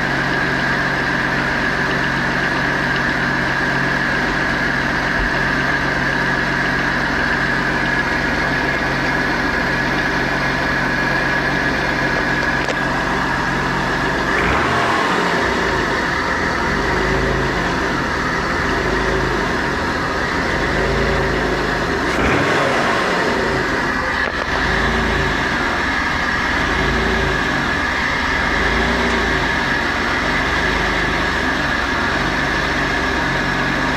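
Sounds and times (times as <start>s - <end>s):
car engine idling: 0.0s - 33.9s
engine ticking: 0.0s - 33.9s.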